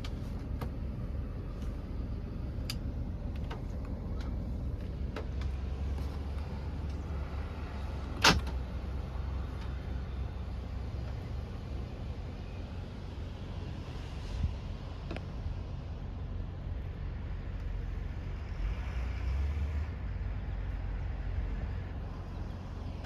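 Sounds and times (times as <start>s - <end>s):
road vehicle rumble: 0.0s - 23.0s.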